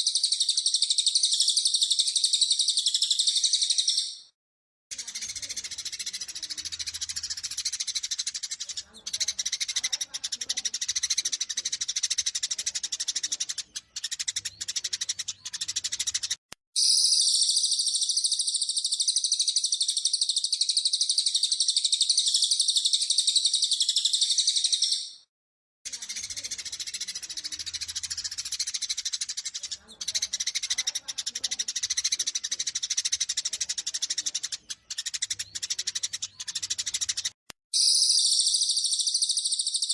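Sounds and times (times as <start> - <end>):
sparrows chirping and chattering: 0.0 - 25.3, 25.9 - 39.9.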